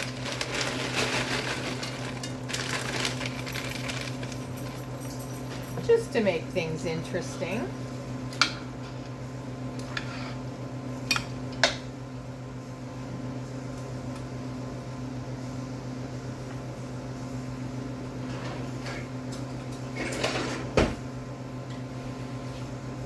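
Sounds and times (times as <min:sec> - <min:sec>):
low appliance hum: 0:00.0 - 0:23.0.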